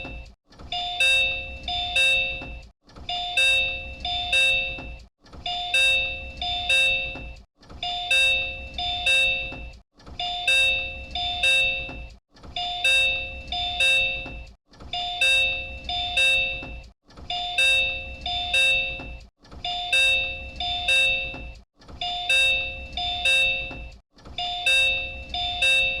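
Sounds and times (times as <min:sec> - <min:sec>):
electronic ding-dong door chime: 0:00.0 - 0:26.0.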